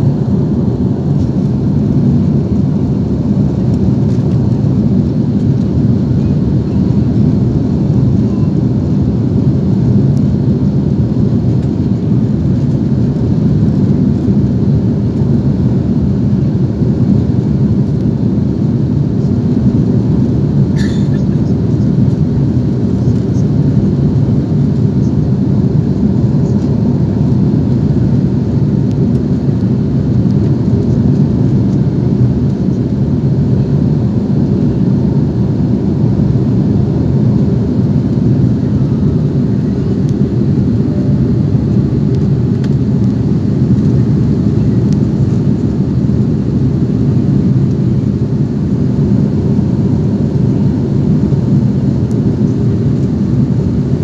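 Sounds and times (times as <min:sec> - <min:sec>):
jet airliner cabin rumble: 0:00.0 - 0:54.0.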